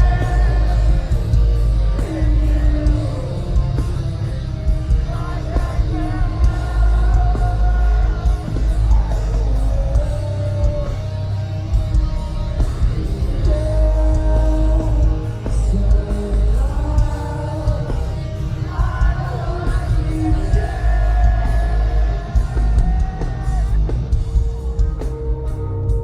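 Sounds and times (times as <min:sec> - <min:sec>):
metal band playing live: 0:00.0 - 0:26.0.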